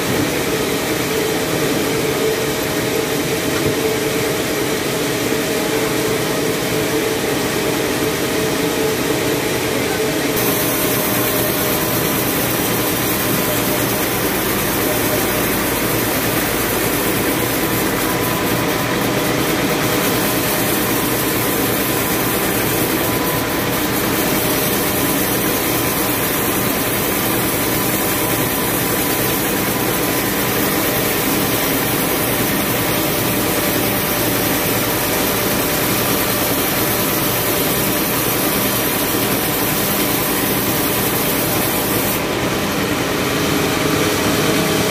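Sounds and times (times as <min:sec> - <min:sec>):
sawmill drone and whine: 0:00.0 - 0:44.9.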